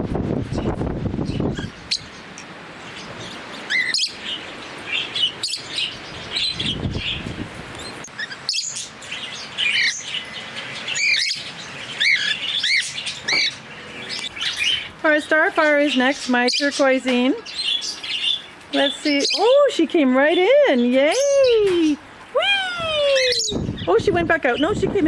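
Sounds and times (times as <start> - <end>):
small parrots chirping: 1.2 - 19.6, 20.3 - 24.8.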